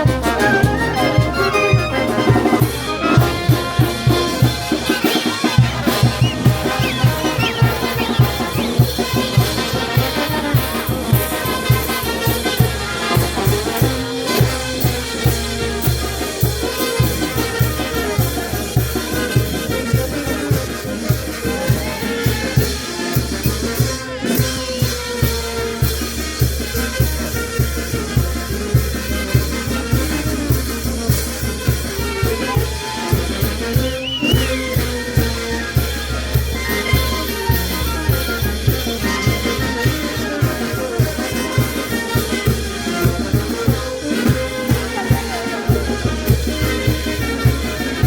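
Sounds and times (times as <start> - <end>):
drums keeping a beat: 0.0 - 48.0
trumpets and trombones: 0.0 - 48.0.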